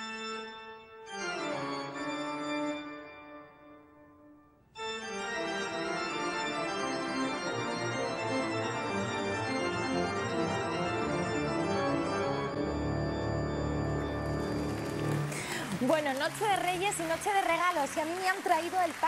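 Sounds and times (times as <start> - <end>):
organ-like keyboard music: 0.0 - 16.9.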